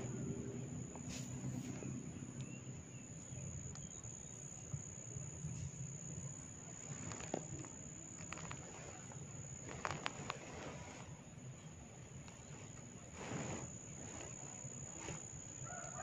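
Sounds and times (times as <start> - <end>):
low hum: 0.0 - 15.6
faint high whine: 0.0 - 16.0.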